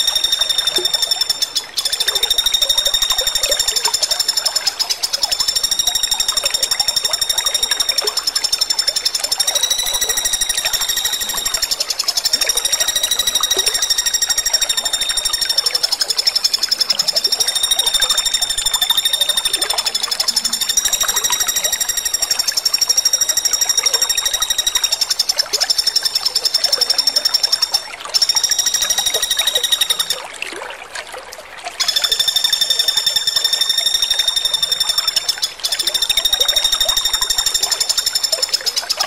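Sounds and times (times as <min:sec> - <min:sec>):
woodpecker rattling trills: 0:00.0 - 0:30.2, 0:31.8 - 0:39.0.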